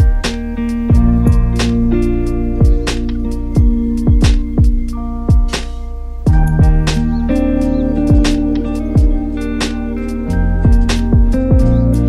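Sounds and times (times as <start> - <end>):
guitar with held notes: 0.0 - 12.0
soft drum beat: 0.0 - 12.0.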